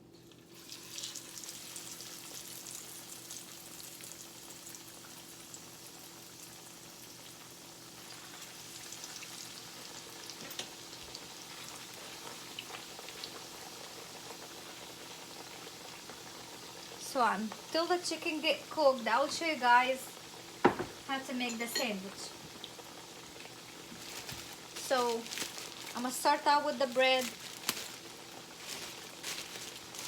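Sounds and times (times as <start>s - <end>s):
chicken sizzling in hot oil: 0.0s - 30.0s
oil popping and crackling: 0.6s - 21.2s, 22.4s - 30.0s.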